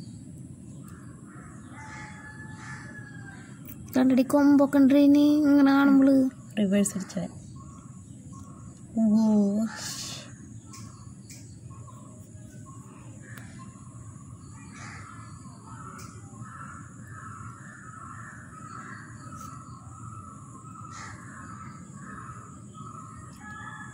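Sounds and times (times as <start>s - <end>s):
bird calls: 0.0s - 3.6s, 5.4s - 23.9s.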